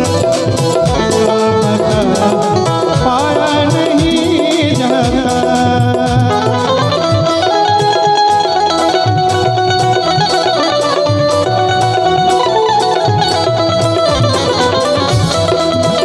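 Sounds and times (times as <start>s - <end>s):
keyboard with banjo-like tone: 0.0s - 16.0s
tabla and dholak drum beats: 0.0s - 16.0s.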